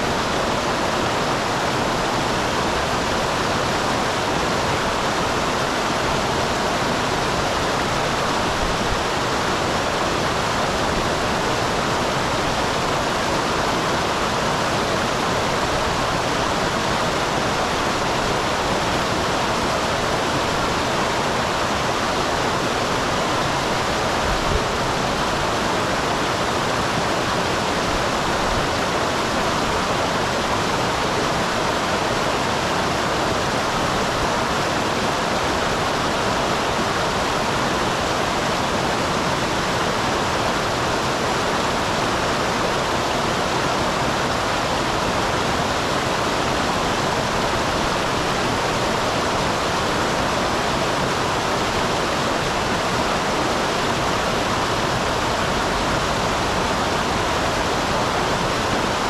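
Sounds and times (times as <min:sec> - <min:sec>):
water splashing and rushing: 0:00.0 - 0:59.0.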